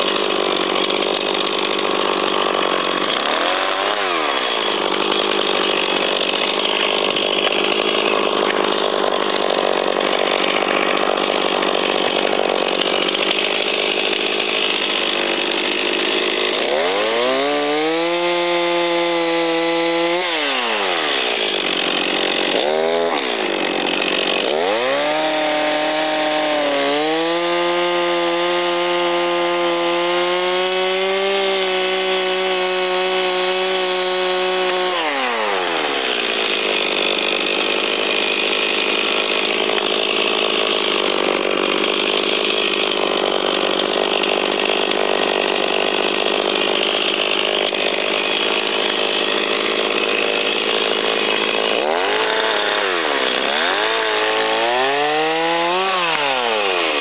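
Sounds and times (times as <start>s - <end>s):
chainsaw cutting wood: 0.0s - 57.0s
chainsaw engine revving: 0.0s - 57.0s.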